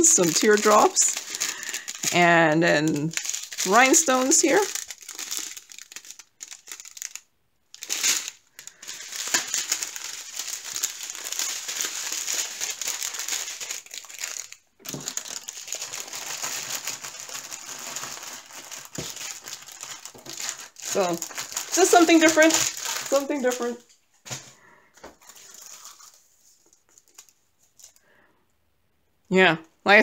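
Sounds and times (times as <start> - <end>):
plastic packaging crinkling: 0.0 - 28.1.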